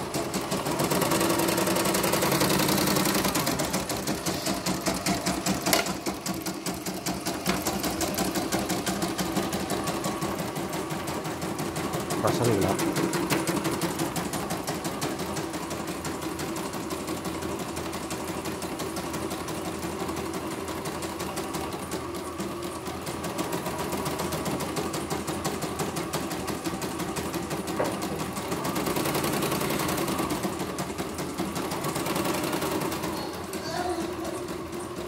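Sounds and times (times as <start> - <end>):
embroidery machine stitching: 0.0 - 35.0.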